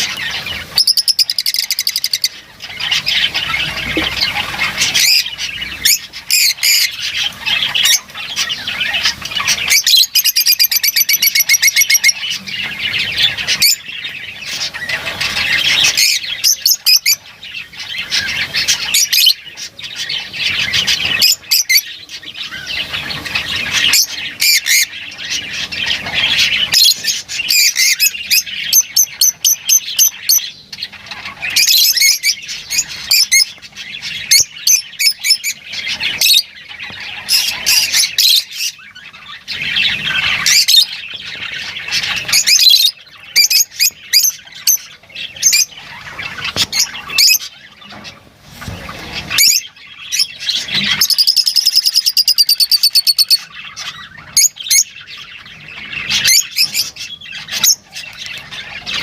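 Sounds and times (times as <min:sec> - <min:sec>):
lovebirds chattering and squawking: 0:00.0 - 0:59.0.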